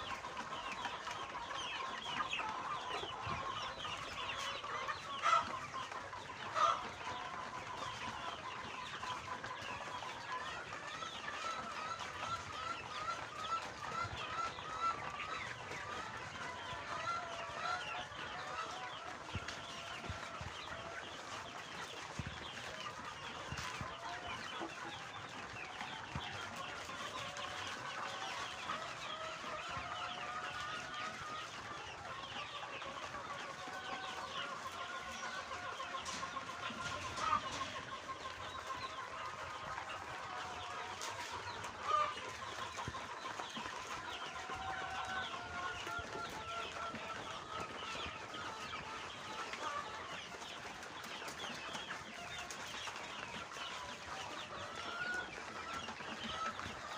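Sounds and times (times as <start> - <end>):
flock of chickens clucking: 0.0 - 56.9.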